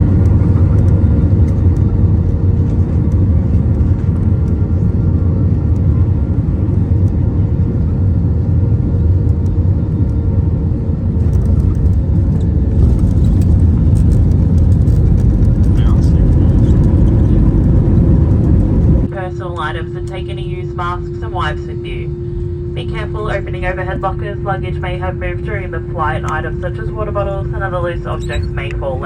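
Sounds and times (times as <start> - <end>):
aircraft cabin engine rumble: 0.0 - 29.0.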